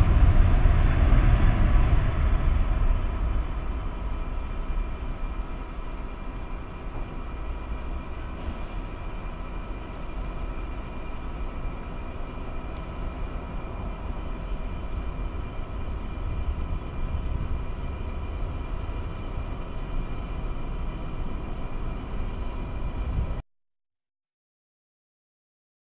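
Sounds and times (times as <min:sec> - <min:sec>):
jet engine high whine: 0:00.0 - 0:23.4
jet engines deep rumble: 0:00.0 - 0:23.4.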